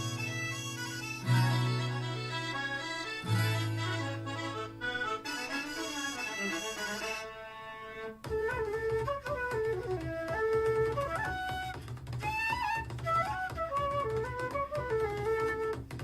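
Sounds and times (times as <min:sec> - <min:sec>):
instrumental music through small speaker: 0:00.0 - 0:16.0.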